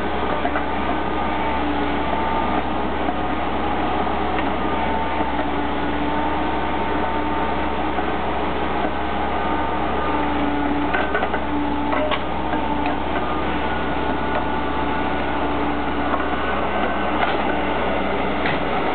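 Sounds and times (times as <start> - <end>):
excavator diesel engine and hydraulics: 0.0 - 18.9.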